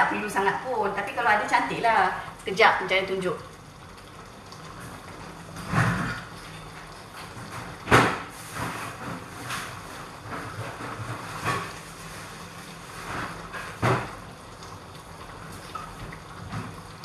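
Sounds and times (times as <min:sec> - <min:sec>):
sauce bubbling in a wok: 0:00.1 - 0:17.0.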